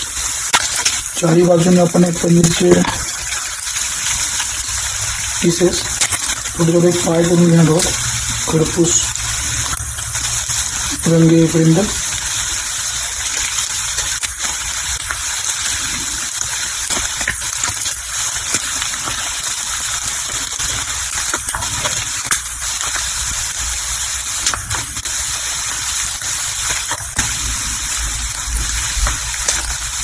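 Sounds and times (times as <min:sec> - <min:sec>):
frying sizzle with pops: 0:00.0 - 0:30.0.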